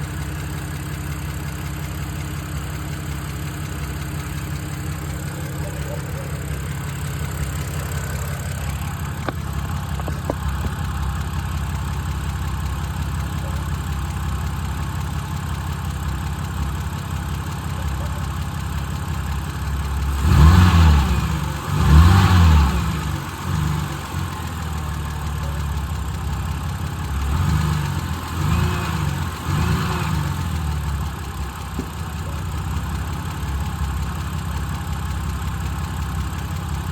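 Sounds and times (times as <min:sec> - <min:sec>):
car engine idling with a tick: 0:00.0 - 0:36.9.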